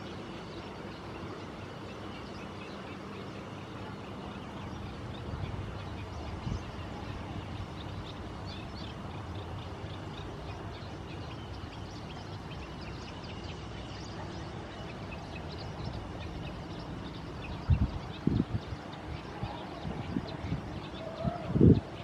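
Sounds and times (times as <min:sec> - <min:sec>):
distant small birds chirping: 0:00.0 - 0:22.0
steady low rumble: 0:00.0 - 0:22.0.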